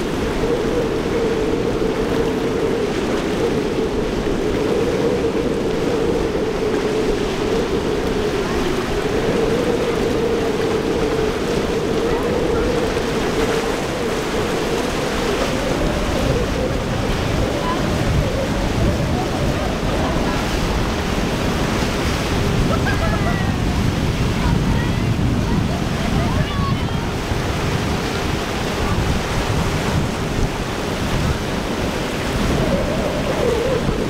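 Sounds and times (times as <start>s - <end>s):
boat motor droning: 0.0s - 34.0s
waves: 0.0s - 34.0s
wind buffeting microphone: 0.0s - 34.0s.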